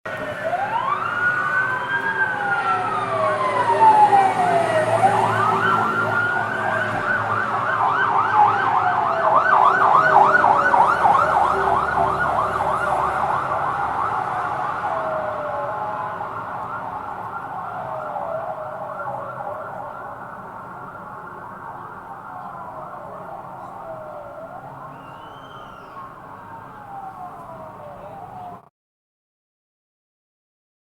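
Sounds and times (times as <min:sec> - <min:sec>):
fire engine siren wailing and yelping: 0:00.1 - 0:28.7.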